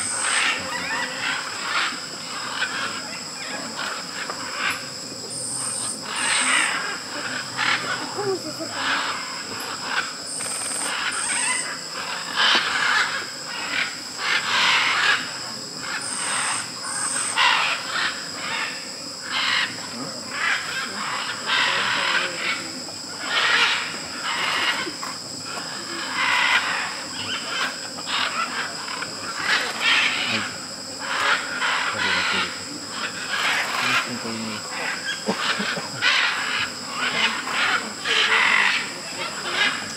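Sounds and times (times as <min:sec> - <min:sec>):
insects droning: 0:00.0 - 0:39.9
macaws squawking: 0:00.0 - 0:39.9.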